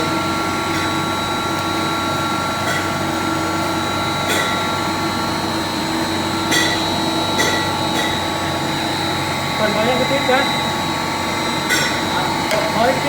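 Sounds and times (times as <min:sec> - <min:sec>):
pump motor whining: 0:00.0 - 0:13.0.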